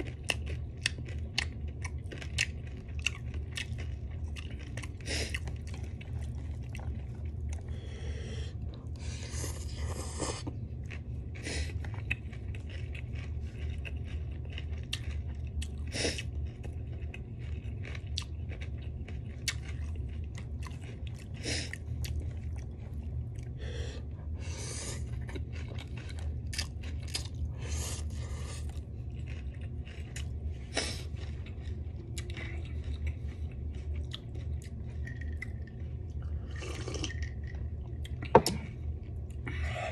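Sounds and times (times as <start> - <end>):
chewing noodles: 0.0 - 39.9
low hum: 0.0 - 39.9.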